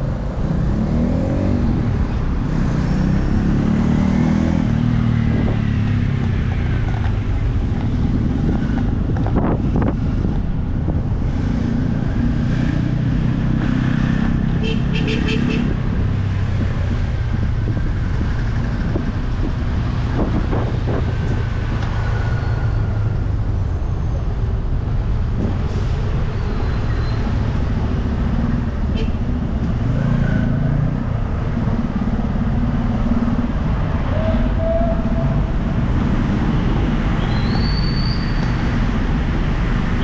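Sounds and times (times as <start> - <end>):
road noise: 0.0 - 40.0
vehicle engine rumble: 0.0 - 40.0.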